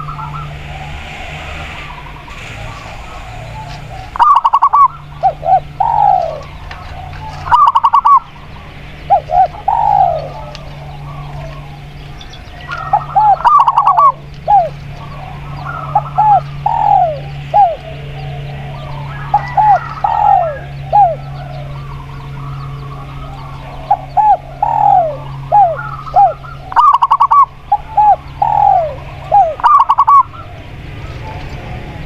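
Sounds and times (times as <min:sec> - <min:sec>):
doves cooing: 0:00.0 - 0:32.0
steady low hum: 0:00.0 - 0:32.0.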